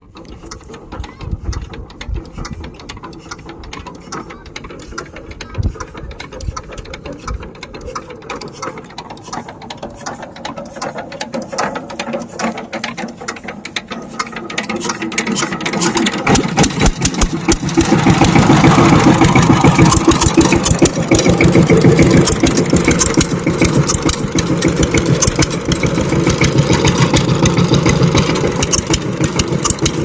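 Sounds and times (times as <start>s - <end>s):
tiller engine clattering: 0.0s - 30.0s.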